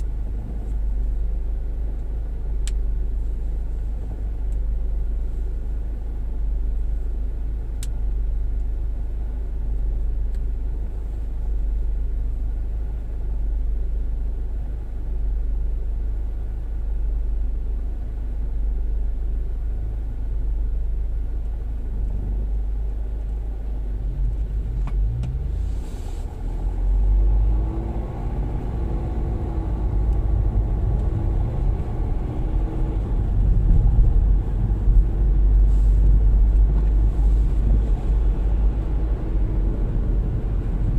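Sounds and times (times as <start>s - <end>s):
car engine: 0.0s - 40.9s
road and tyre noise: 0.0s - 40.9s.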